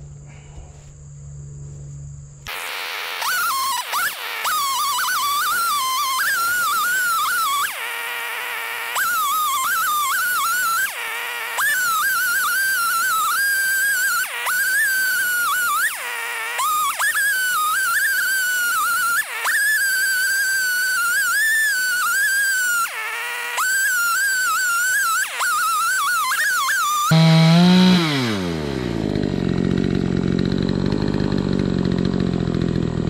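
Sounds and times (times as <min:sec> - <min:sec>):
chainsaw cutting log: 0:02.5 - 0:33.0.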